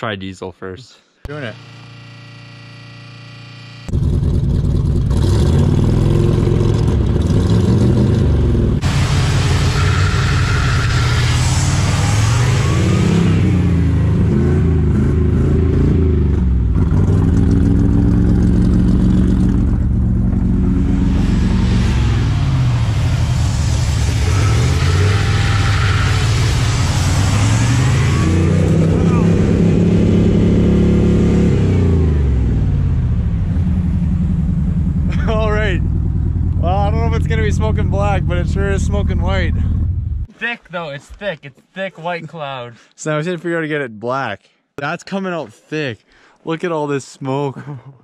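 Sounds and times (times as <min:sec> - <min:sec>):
engine revving: 0:01.4 - 0:40.3.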